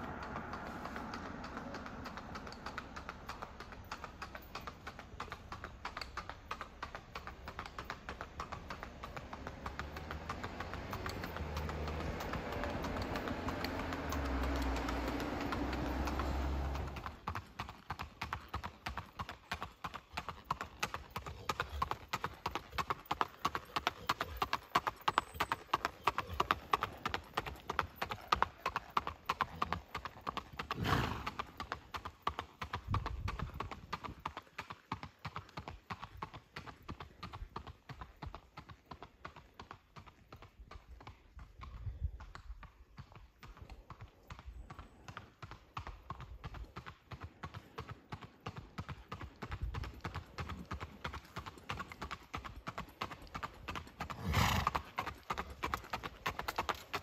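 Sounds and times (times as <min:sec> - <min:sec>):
hooves clip-clopping on asphalt: 0:00.0 - 0:57.0.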